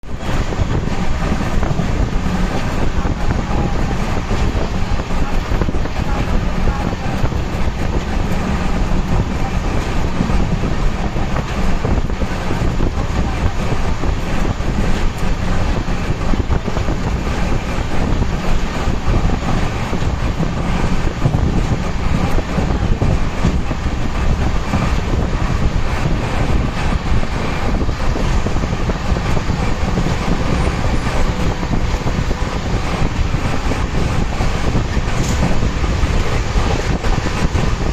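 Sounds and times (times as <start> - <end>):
train running on track: 0.0 - 37.9.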